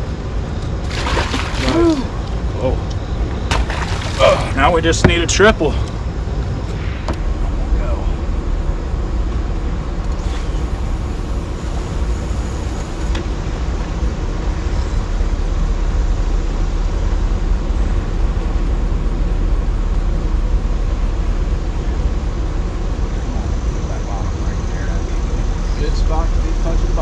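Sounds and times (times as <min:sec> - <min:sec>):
water roaring below a dam: 0:00.0 - 0:27.0.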